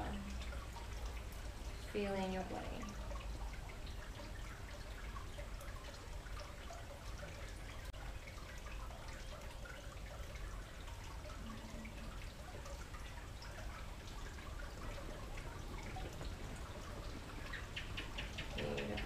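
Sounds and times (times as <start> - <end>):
faint trickling water: 0.0 - 19.0
small water drips ticking: 0.0 - 19.0.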